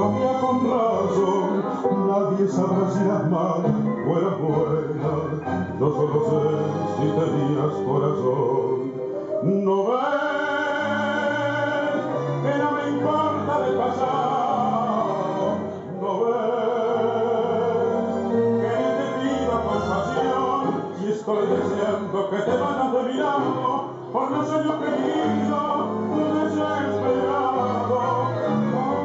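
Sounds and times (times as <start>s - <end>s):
tango music with singing: 0.0s - 29.0s.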